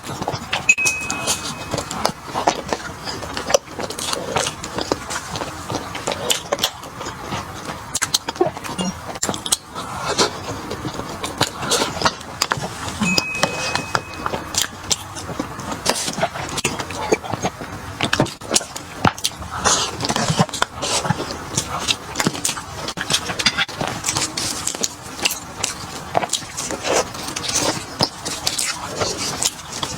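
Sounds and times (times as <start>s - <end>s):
person chewing and crunching: 1.3s - 27.8s.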